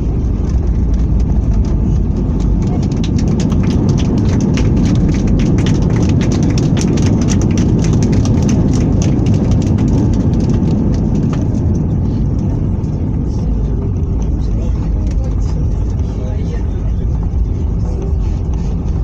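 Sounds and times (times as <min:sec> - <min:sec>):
engine and landing gear rumble: 0:00.0 - 0:19.0
rapid rattling and ticking: 0:00.0 - 0:19.0.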